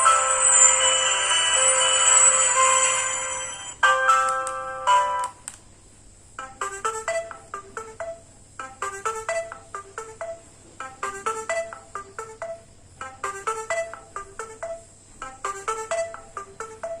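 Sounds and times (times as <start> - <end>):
phone ringtone beeping melody: 0.0 - 5.3, 6.4 - 17.0.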